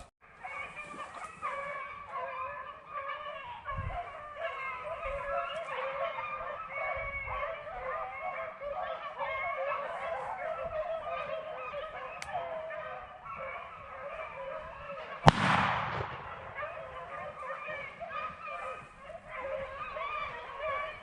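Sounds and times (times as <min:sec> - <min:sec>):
pack of hounds baying: 0:00.0 - 0:21.0.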